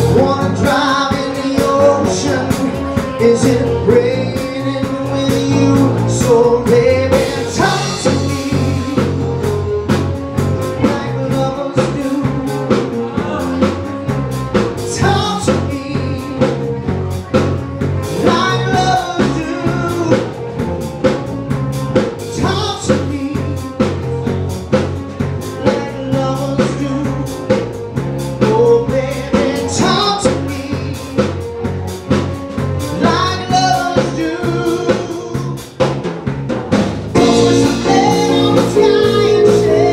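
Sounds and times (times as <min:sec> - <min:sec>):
man singing: 0:00.0 - 0:17.5, 0:18.1 - 0:20.5, 0:22.2 - 0:31.6, 0:32.8 - 0:35.8, 0:37.2 - 0:39.9
drum kit beat: 0:00.0 - 0:39.9
electric bass: 0:00.0 - 0:39.9
keyboard: 0:00.0 - 0:39.9.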